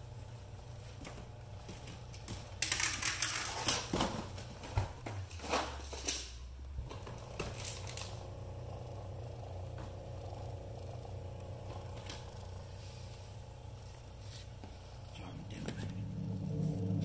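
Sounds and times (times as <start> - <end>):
tape player hum: 0.0 - 5.8, 6.4 - 17.0.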